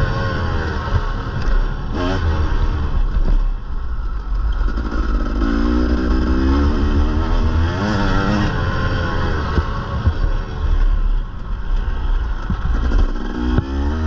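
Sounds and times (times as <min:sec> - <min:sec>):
motocross bike engine: 0:00.0 - 0:14.0.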